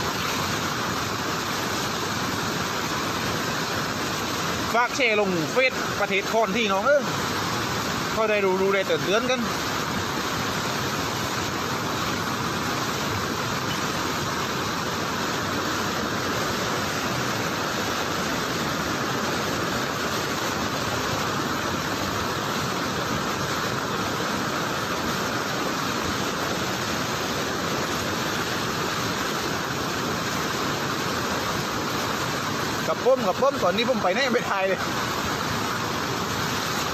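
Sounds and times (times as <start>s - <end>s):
floodwater rushing: 0.0s - 36.9s.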